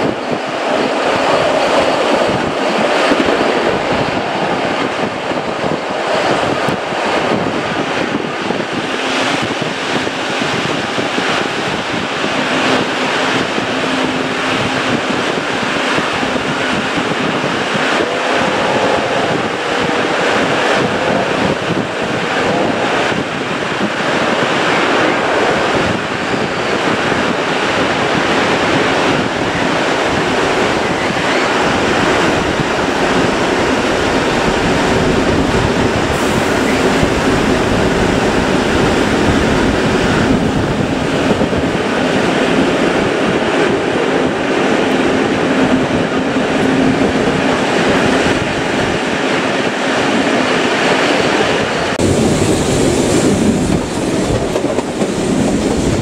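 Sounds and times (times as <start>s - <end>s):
train running: 0.0s - 56.0s.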